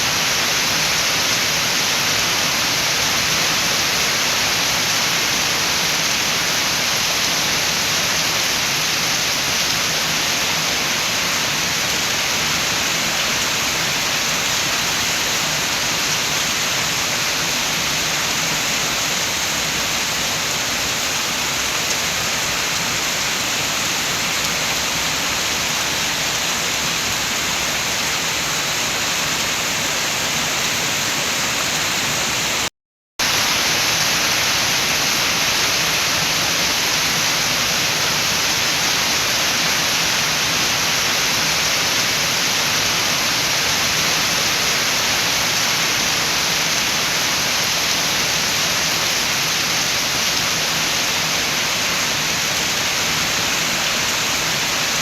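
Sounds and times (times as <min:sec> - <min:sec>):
heavy rain with wind: 0:00.0 - 0:55.0.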